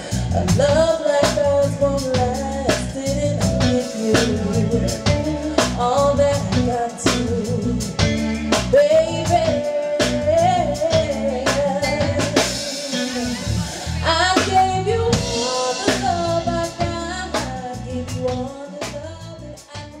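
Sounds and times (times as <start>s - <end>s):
bass guitar: 0.0s - 20.0s
drum kit: 0.0s - 20.0s.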